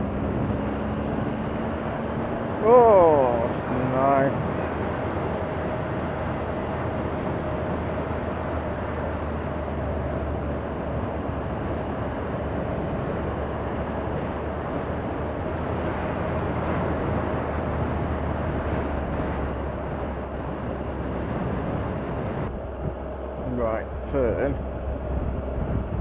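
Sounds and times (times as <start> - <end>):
wind noise: 0.0 - 26.0.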